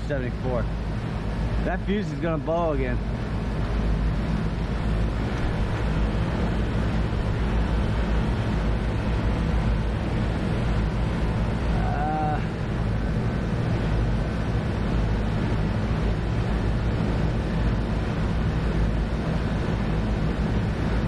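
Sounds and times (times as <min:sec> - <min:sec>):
air conditioning unit rumbling: 0:00.0 - 0:21.0.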